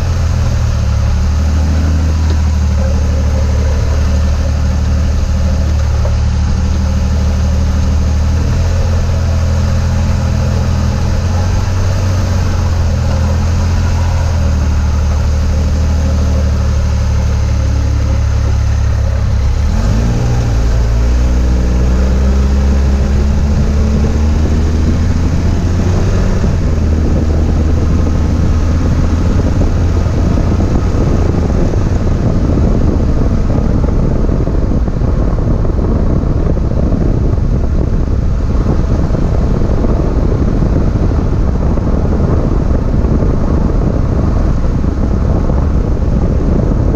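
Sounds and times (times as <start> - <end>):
car engine running: 0.0 - 46.9
road noise: 0.0 - 46.9.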